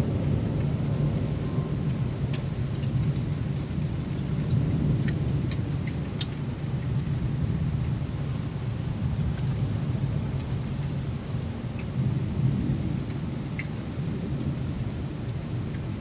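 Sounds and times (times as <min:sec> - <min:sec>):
heavy rain falling: 0:00.0 - 0:16.0
water drips ticking: 0:01.8 - 0:12.3, 0:13.0 - 0:16.0.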